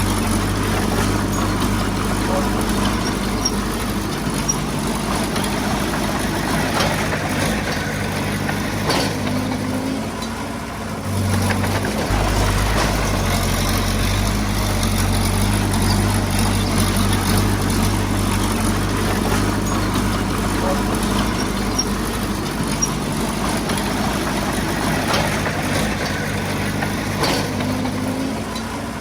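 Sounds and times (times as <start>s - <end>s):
diesel engine of heavy equipment: 0.0s - 29.0s.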